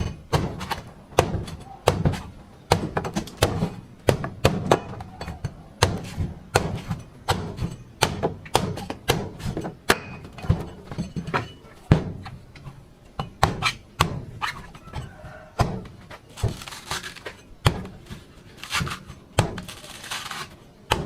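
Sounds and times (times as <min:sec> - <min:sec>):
machete chopping coconut: 0:00.0 - 0:12.4, 0:13.2 - 0:21.0.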